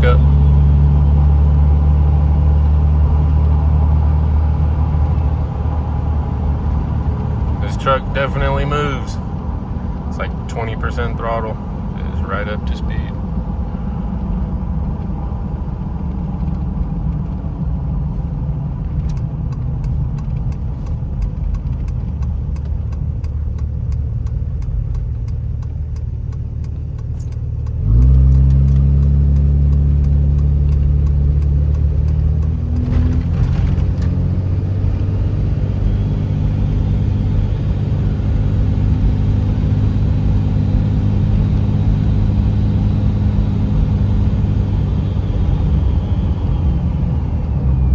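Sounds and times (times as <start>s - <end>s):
diesel truck engine driving: 0.0s - 47.9s.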